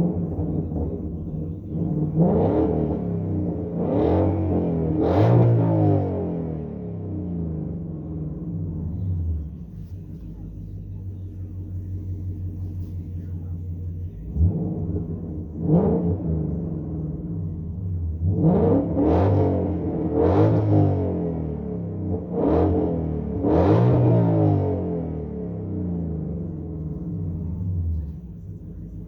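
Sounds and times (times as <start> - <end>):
car engine idling: 0.0 - 29.0
engine revving in throttle blips: 0.0 - 29.0.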